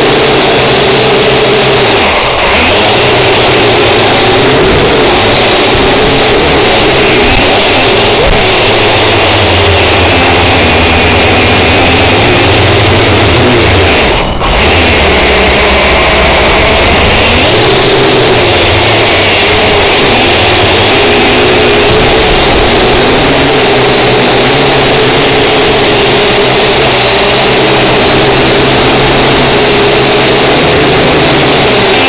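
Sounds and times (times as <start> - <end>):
drone propellers buzzing: 0.0 - 32.0.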